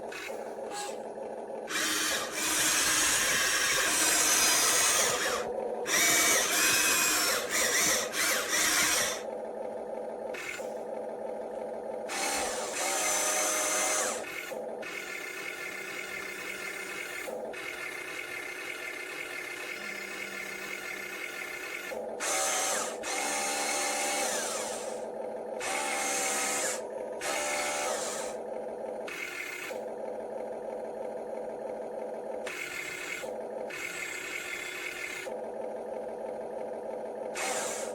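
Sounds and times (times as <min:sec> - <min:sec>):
toy truck electric motors whining: 0:00.0 - 0:11.4, 0:12.0 - 0:30.7, 0:32.4 - 0:37.9.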